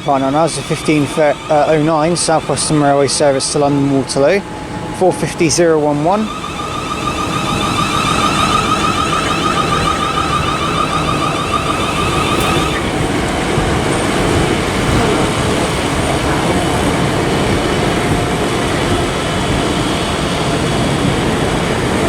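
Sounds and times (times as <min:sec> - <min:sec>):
electric whine: 0:00.0 - 0:22.0
train wheels rumbling on rail: 0:00.0 - 0:22.0.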